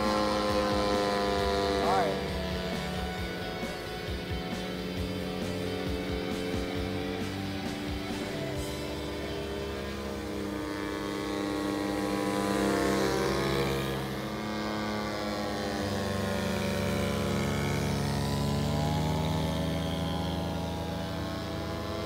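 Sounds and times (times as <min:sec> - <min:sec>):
model plane engine buzzing: 0:00.0 - 0:22.0.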